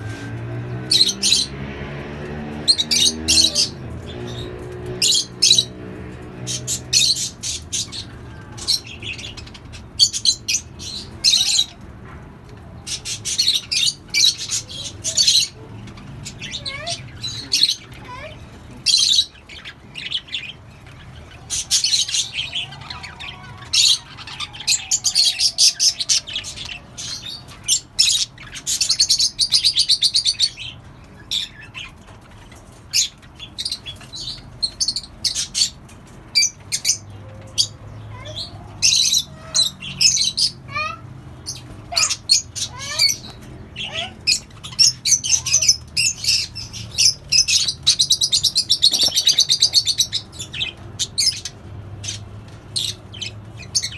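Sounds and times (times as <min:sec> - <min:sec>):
parrots chirping and chattering: 0:00.0 - 0:53.9.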